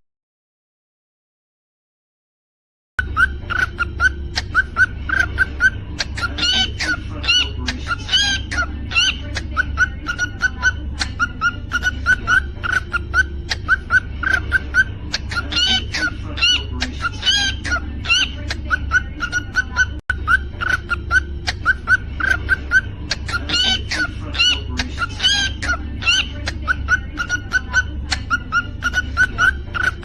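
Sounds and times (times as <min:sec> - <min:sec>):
cockatiel chirping: 0:03.0 - 0:30.0
cockatiel whistled calls: 0:03.0 - 0:30.0.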